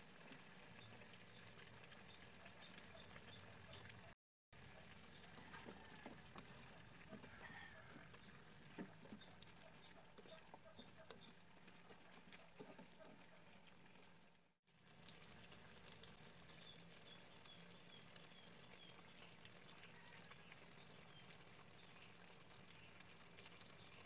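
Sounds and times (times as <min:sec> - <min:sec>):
food sizzling in a wok: 0:00.0 - 0:24.0
small crackles: 0:00.0 - 0:24.0.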